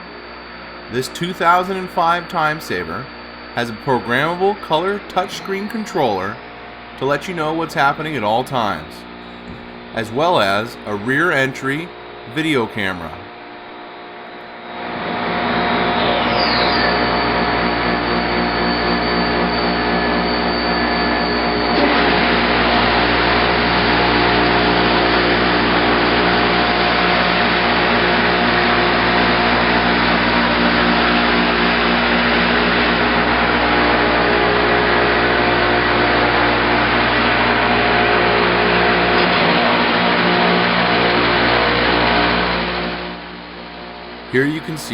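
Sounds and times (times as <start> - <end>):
high whine: 0.0 - 43.4, 44.2 - 44.9.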